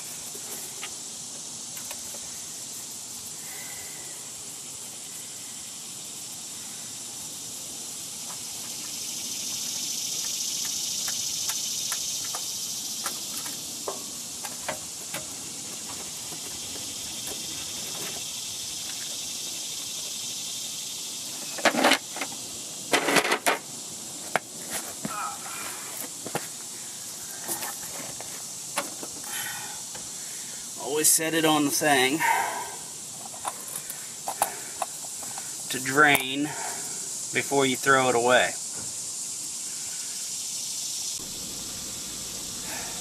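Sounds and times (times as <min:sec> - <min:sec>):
steady high hiss: 0:00.0 - 0:43.0.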